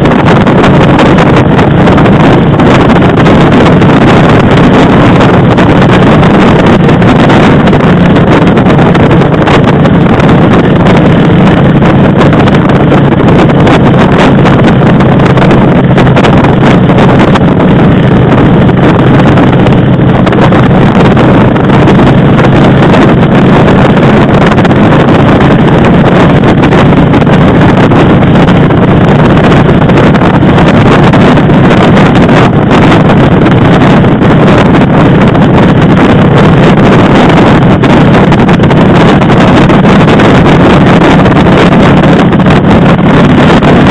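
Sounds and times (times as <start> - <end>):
motorcycle engine drone: 0.0 - 43.9
wind rush on microphone: 0.0 - 43.9.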